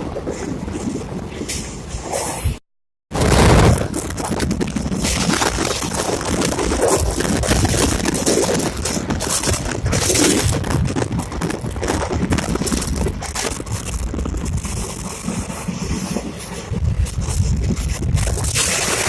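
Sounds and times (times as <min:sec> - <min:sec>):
train rattles: 0:03.2 - 0:19.0.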